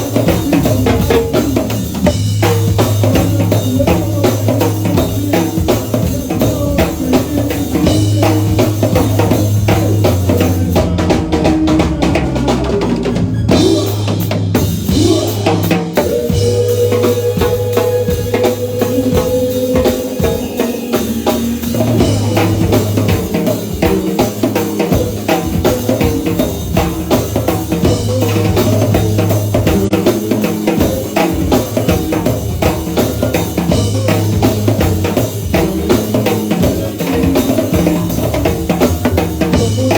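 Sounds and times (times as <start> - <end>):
bass line: 0.0 - 39.9
drum kit steady beat: 0.0 - 39.9.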